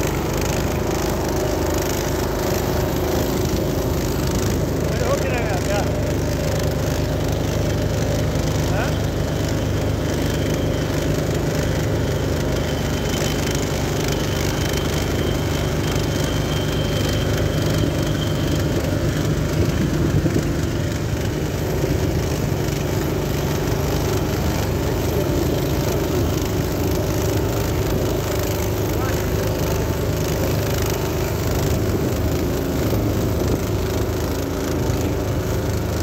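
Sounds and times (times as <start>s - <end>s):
small boat engine running: 0.0s - 36.0s.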